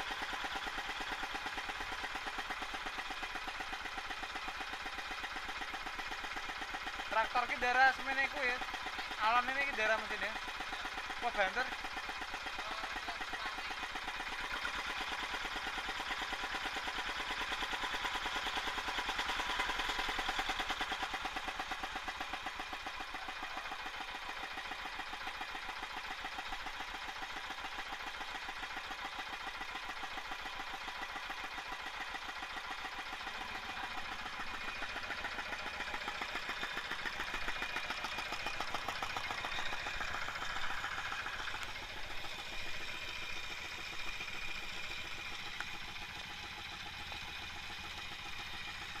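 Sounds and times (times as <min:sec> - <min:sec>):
diesel tractor engine running: 0:00.0 - 0:49.0.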